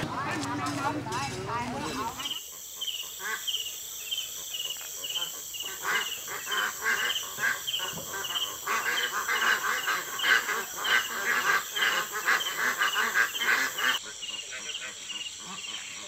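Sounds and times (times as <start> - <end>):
ducks quacking: 0.0 - 16.0
crickets chirping: 0.4 - 16.0.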